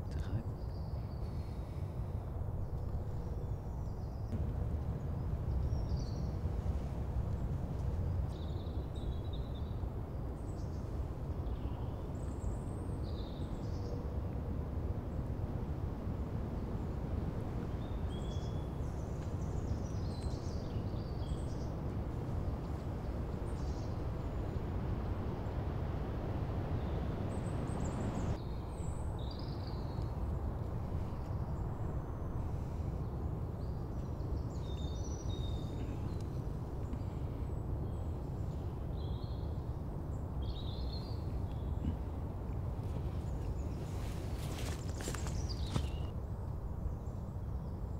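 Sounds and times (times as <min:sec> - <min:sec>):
low rumble background noise: 0:00.0 - 0:47.9.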